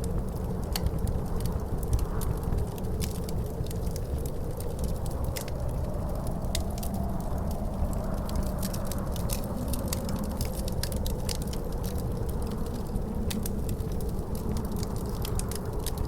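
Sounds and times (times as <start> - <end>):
howling wind: 0.0 - 16.0
wood fire crackling: 0.0 - 16.0.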